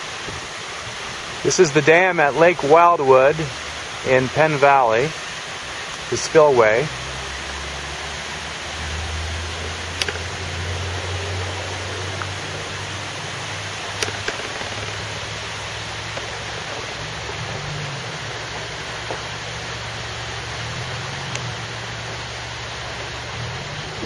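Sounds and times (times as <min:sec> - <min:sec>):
water rushing over spillway: 0:00.0 - 0:24.0.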